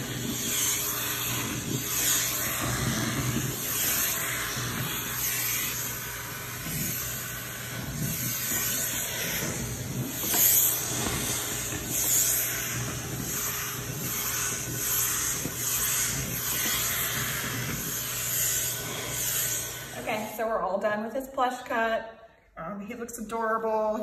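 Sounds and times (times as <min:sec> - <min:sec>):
electric clippers humming: 0:00.0 - 0:20.3.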